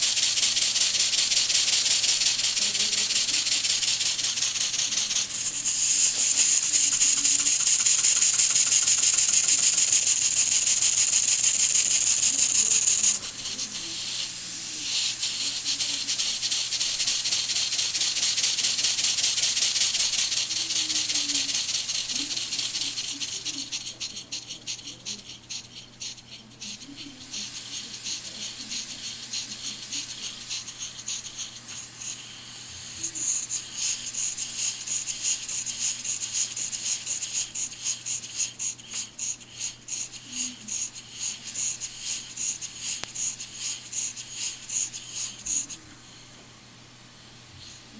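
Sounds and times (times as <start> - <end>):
light mechanical rattle: 0.0 - 45.8
steam engine hissing exhaust: 0.0 - 47.9.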